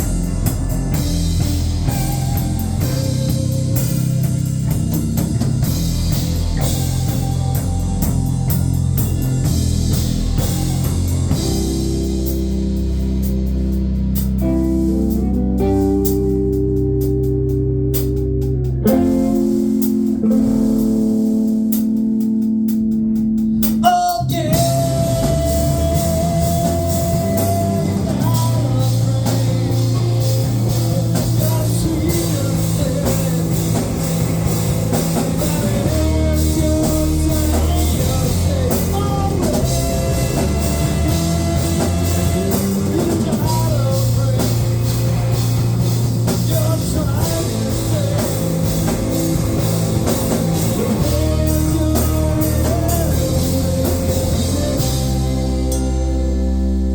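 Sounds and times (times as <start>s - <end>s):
rock band playing: 0.0s - 56.9s
sustained chords: 0.0s - 56.9s.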